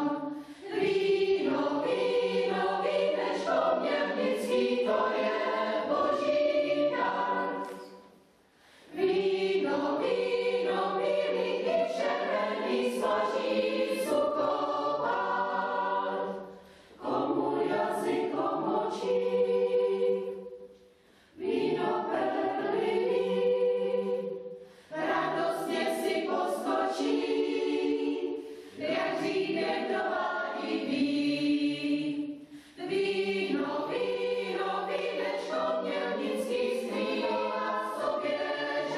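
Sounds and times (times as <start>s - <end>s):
mixed choir singing: 0.0s - 8.2s, 8.8s - 38.9s.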